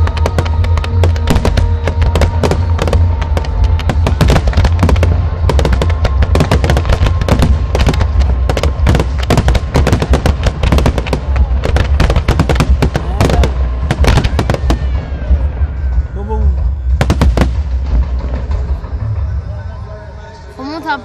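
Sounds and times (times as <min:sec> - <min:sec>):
fireworks bursting and crackling: 0:00.0 - 0:19.1
music playing: 0:00.0 - 0:21.0.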